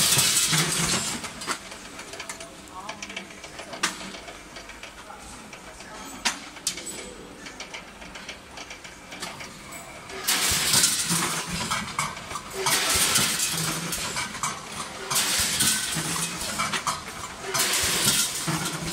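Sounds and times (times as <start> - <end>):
packing machine running with clicks: 0.0 - 18.9.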